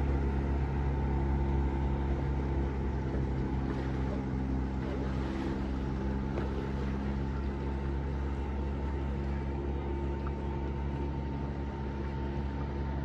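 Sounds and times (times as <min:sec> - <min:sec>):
motorboat engine drone: 0:00.0 - 0:13.0.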